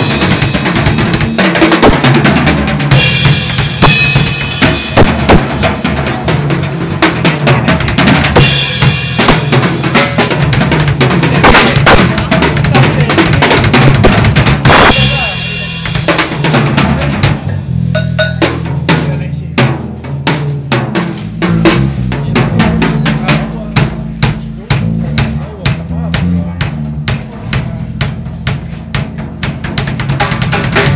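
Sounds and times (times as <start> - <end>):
snare and bass drum: 0.0 - 30.9.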